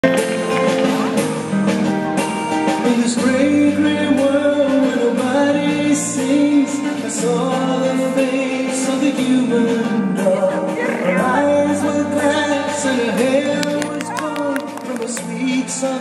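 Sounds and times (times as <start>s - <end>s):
waltz dance music: 0.0s - 16.0s
person singing: 2.7s - 16.0s.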